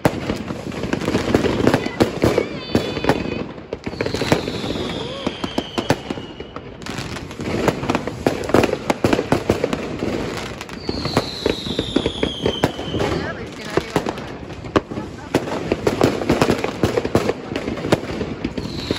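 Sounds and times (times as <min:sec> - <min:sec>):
fireworks bangs and crackles: 0:00.0 - 0:18.9
falling firework whistles: 0:00.1 - 0:17.1, 0:17.8 - 0:18.9.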